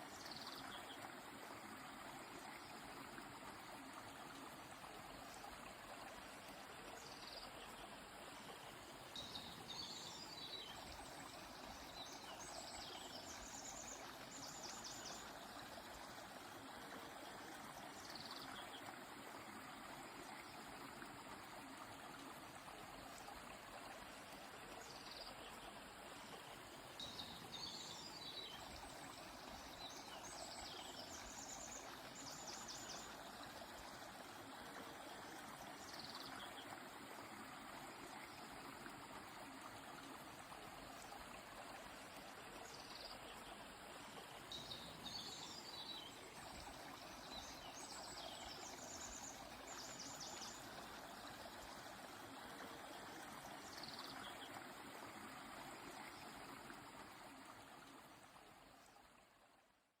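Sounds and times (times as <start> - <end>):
river flowing: 0.0 - 59.7.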